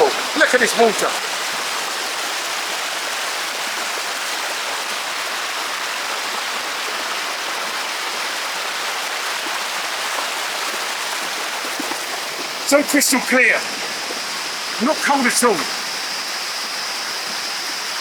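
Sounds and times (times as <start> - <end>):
small waterfall pouring into pool: 0.0 - 18.0.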